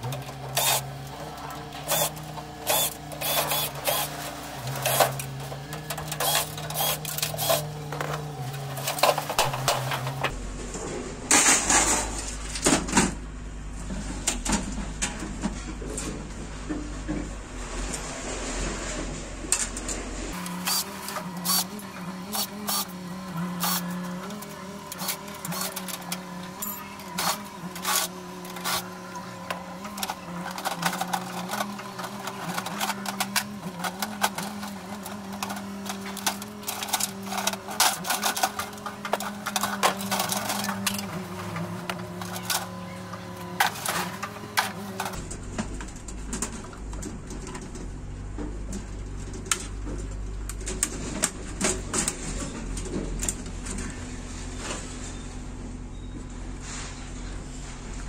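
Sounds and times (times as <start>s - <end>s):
steady hum: 0.0s - 18.0s, 19.0s - 54.6s.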